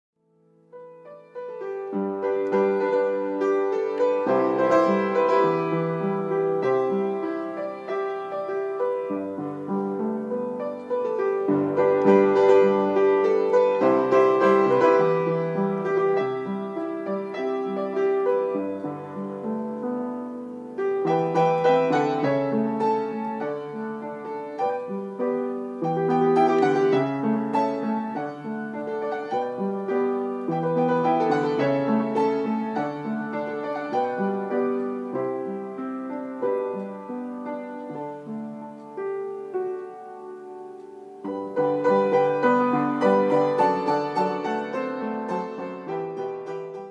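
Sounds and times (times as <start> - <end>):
piano music: 0.2 - 46.9.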